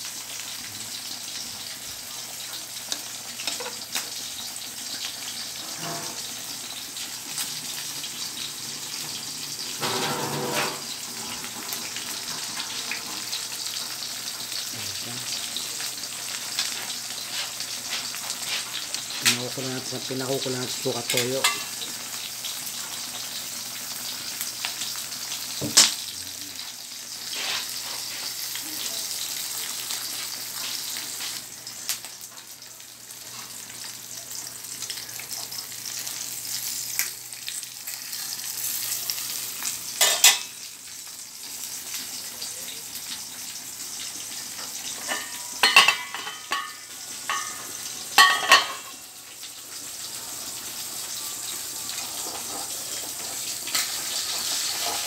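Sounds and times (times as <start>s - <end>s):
food simmering in a pan: 0.0s - 55.0s.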